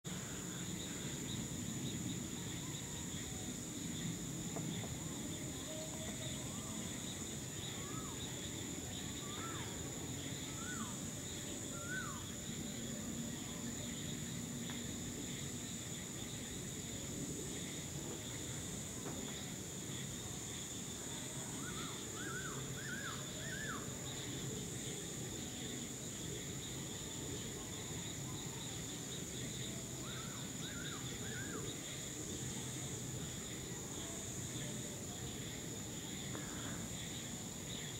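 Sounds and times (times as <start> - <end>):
insects droning: 0.0 - 37.9.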